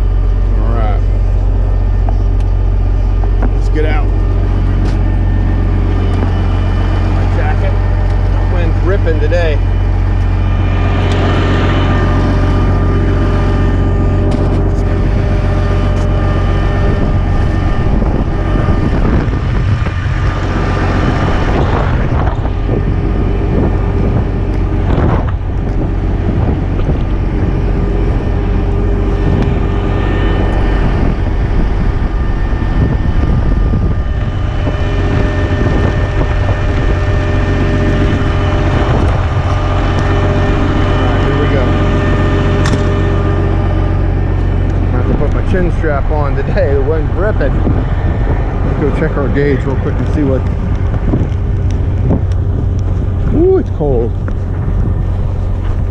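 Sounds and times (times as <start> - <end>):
diesel truck engine idling: 0.0 - 55.9
wind buffeting microphone: 0.0 - 55.9.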